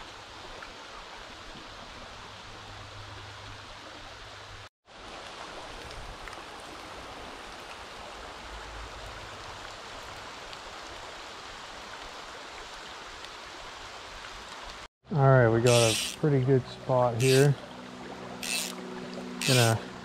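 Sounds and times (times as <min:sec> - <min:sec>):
stream running over rocks: 0:00.0 - 0:14.9, 0:15.6 - 0:20.0.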